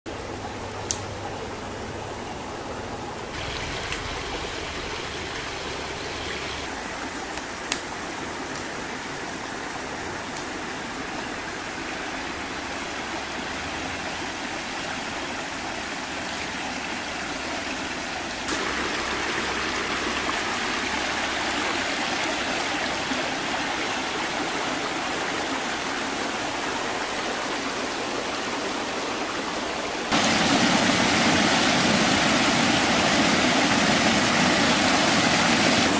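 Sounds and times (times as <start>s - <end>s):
stream rushing over stones: 2.8s - 35.9s.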